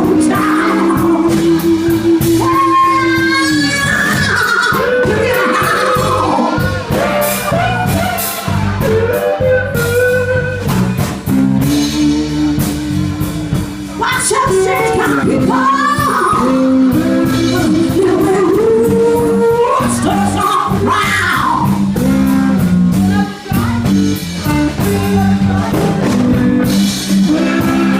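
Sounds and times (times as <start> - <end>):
person singing: 0.0 - 10.5, 11.6 - 27.9
bass guitar: 0.0 - 27.9
drum kit: 0.0 - 27.9
electric guitars: 0.0 - 27.9.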